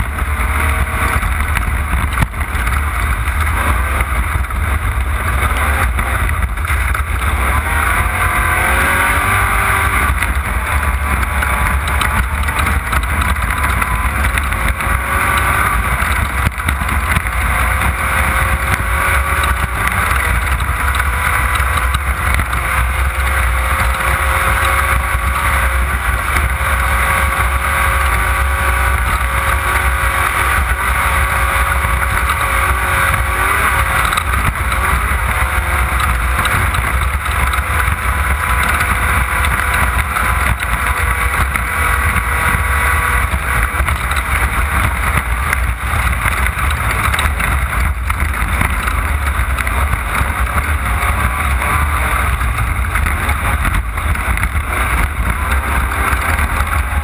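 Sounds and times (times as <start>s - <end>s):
race car engine drone: 0.0s - 57.0s
wind and rough ground rumble: 0.0s - 57.0s.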